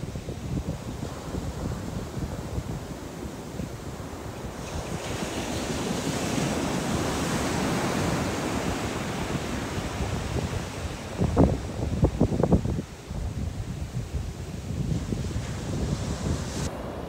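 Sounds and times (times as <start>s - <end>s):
wave washing on beach: 0.0s - 17.0s
wind buffeting microphone: 0.0s - 17.0s.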